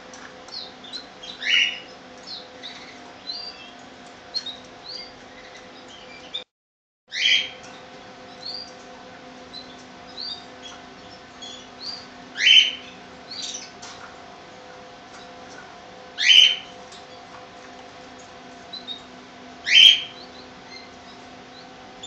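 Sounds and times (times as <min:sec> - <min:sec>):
canaries chirping: 0:00.0 - 0:06.5, 0:07.1 - 0:22.0.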